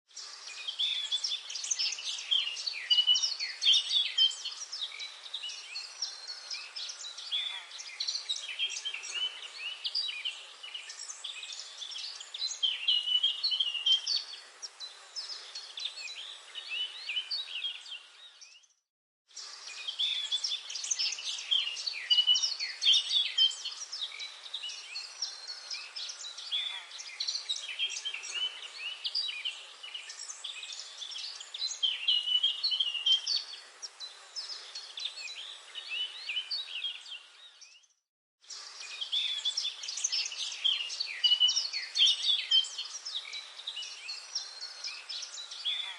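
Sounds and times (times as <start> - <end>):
birds chirping and singing: 0.1 - 18.8, 19.4 - 45.9.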